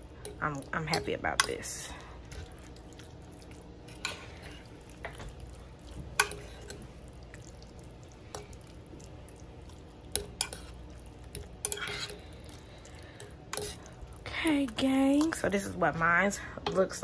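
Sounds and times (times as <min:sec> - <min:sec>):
wet stirring of noodles: 0:00.0 - 0:17.0.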